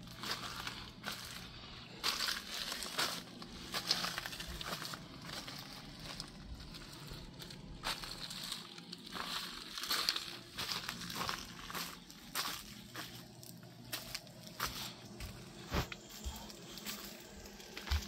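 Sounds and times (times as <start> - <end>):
low steady hum: 0.0 - 18.0
plastic sheeting crinkling: 0.0 - 18.0.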